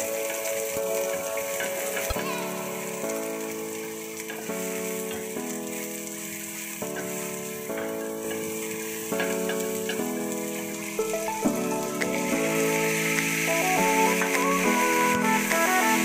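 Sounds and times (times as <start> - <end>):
background music with sustained chords: 0.0 - 16.0
onions sizzling in hot oil: 0.0 - 16.0.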